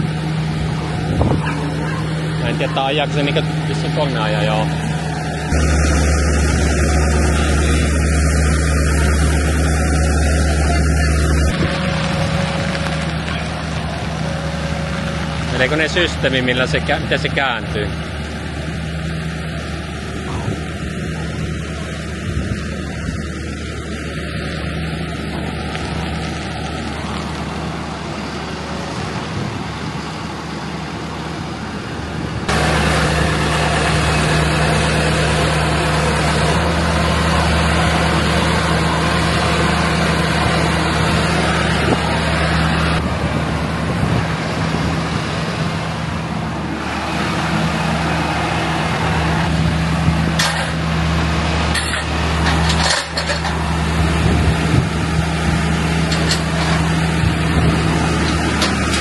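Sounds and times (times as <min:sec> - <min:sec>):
crane engine running: 0:00.0 - 0:59.0.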